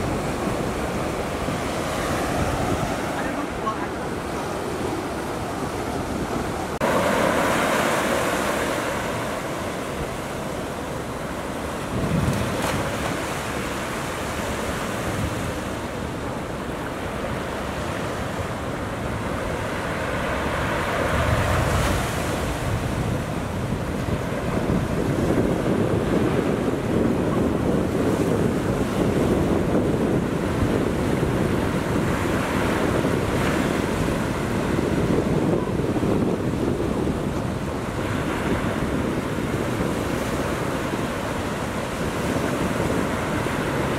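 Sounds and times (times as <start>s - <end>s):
ocean waves breaking: 0.0s - 43.9s
wind rumbling on microphone: 0.0s - 43.9s.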